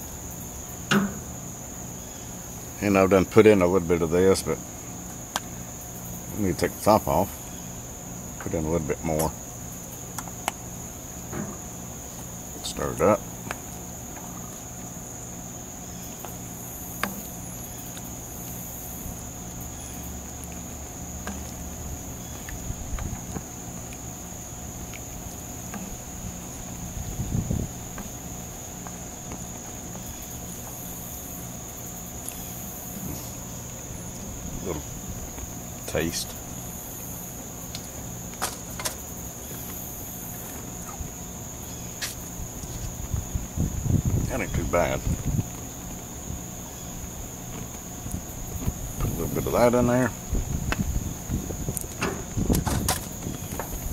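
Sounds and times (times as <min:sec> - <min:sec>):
high drone of insects: 0:00.0 - 0:53.9.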